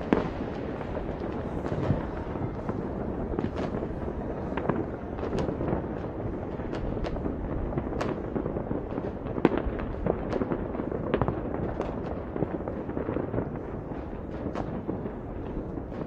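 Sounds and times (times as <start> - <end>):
fireworks rumble: 0.0 - 16.0
sharp firework bangs: 0.0 - 16.0.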